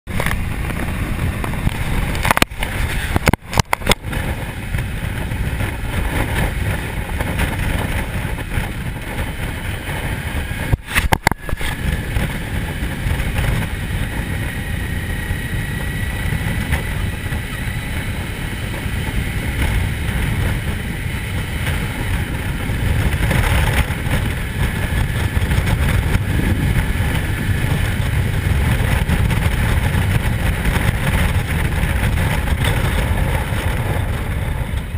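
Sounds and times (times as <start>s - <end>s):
motorcycle engine: 0.1s - 34.9s
wind rumble on microphone: 0.1s - 34.9s.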